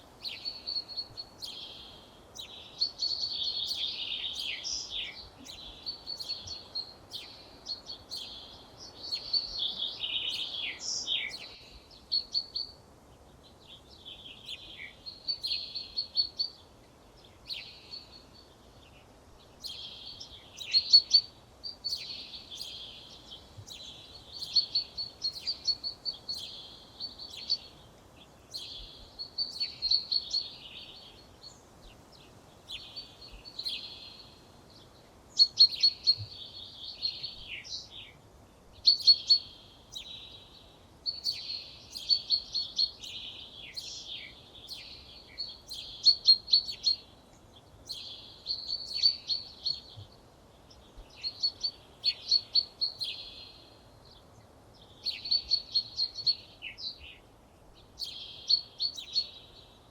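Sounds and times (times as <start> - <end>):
faint background hiss: 0.0 - 59.9
songbirds singing: 0.0 - 59.9.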